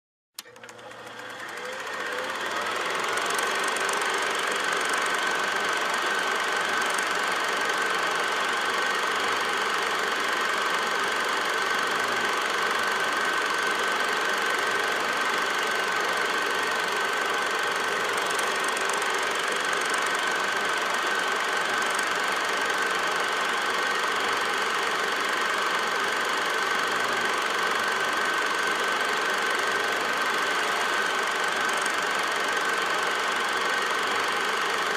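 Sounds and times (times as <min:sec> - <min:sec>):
film projector running: 0:00.4 - 0:34.9.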